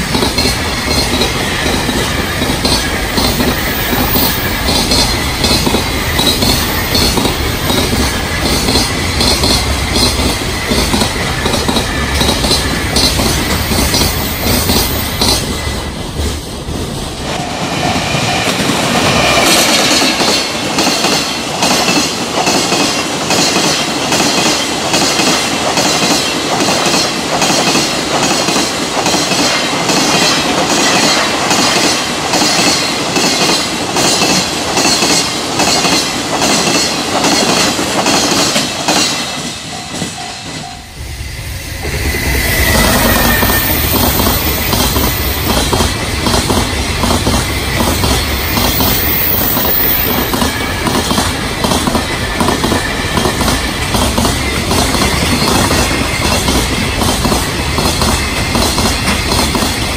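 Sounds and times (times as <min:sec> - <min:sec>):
freight train wheels clattering: 0:00.0 - 0:59.9
train rumble: 0:00.0 - 0:59.9.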